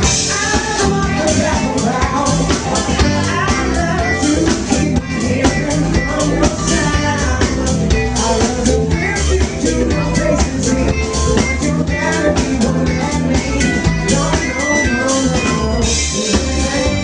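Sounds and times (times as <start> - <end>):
live soul band playing: 0.0 - 17.0.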